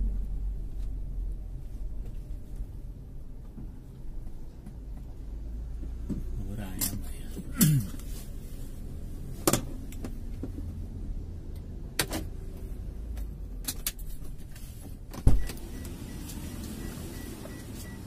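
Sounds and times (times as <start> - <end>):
low rumble in car cabin: 0.0 - 18.0.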